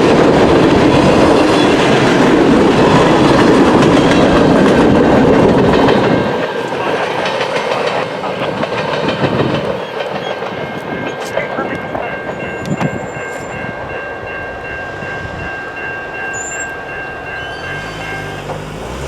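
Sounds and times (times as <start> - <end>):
train wheels clattering over rails: 0.0 - 13.6, 16.3 - 19.0.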